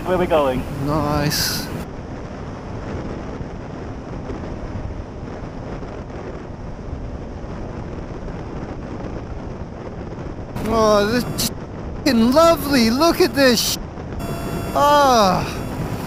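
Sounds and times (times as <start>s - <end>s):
wind roaring over microphone: 0.0s - 16.0s
motorcycle engine and road noise: 1.4s - 16.0s.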